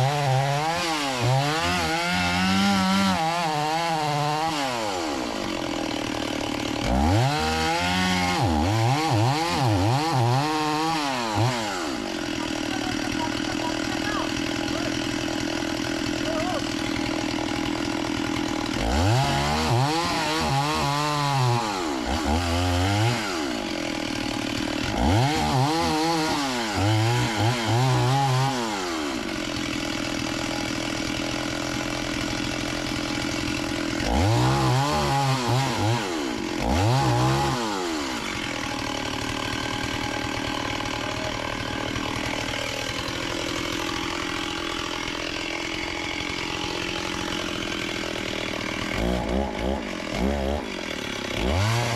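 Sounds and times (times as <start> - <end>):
chainsaw revving: 0.0 - 51.9.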